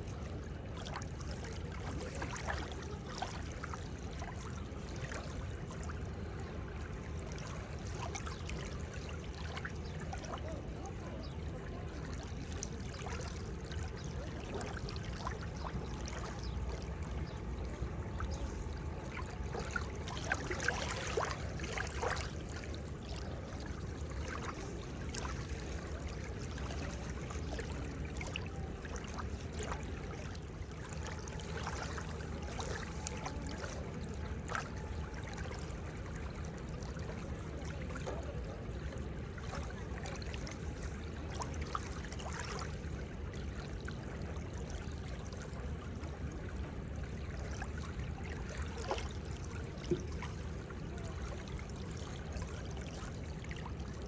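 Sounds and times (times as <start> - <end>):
seawater lapping at shore: 0.0 - 54.0.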